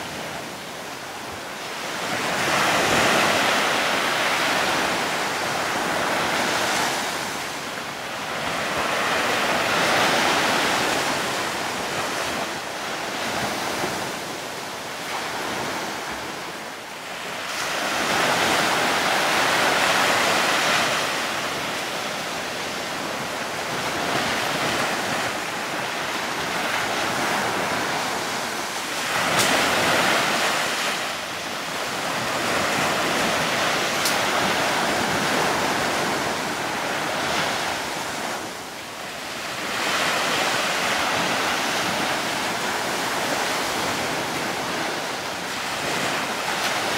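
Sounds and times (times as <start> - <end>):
sea waves: 0.0 - 46.9
wind on microphone: 0.0 - 46.9.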